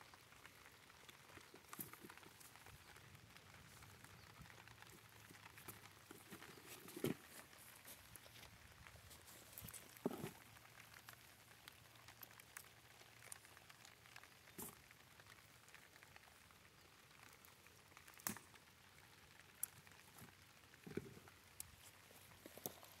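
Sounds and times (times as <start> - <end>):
light rain pattering on plastic: 0.0 - 23.0.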